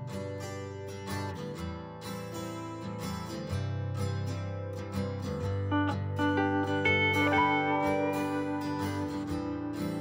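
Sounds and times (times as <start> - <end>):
gentle acoustic guitar music: 0.0 - 10.0.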